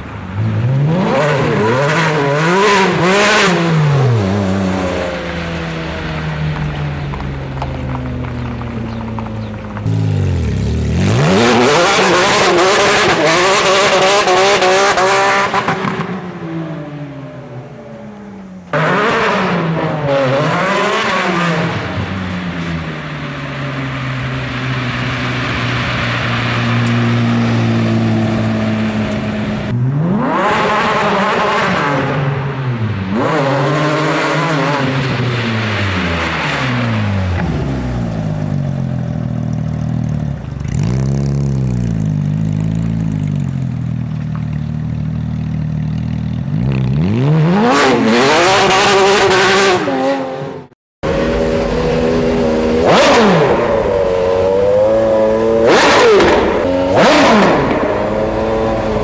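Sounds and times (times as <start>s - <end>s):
sports car engine revving: 0.3s - 17.2s, 18.6s - 22.4s, 24.1s - 44.0s, 45.9s - 59.0s.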